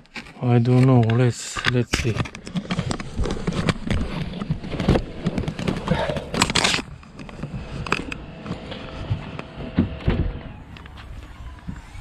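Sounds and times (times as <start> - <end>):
rustling of wiring and trim: 0.0 - 12.0.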